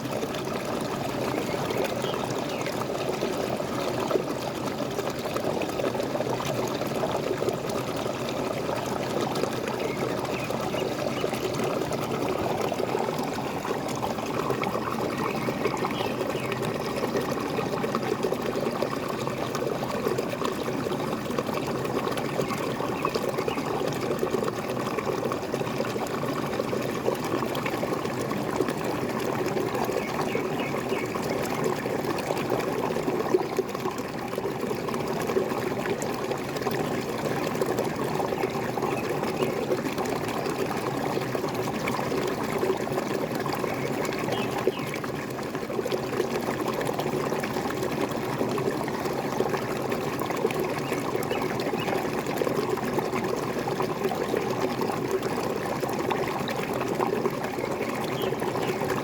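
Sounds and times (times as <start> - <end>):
water splashing over small waterfall: 0.0 - 59.0.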